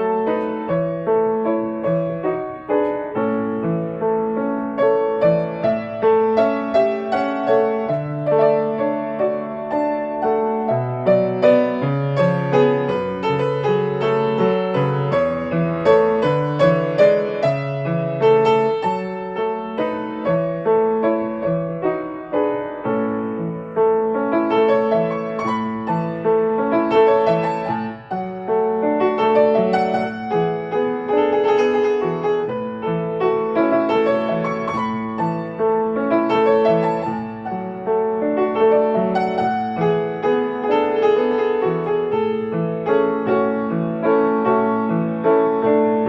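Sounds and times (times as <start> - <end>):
solo piano melody: 0.0 - 46.0.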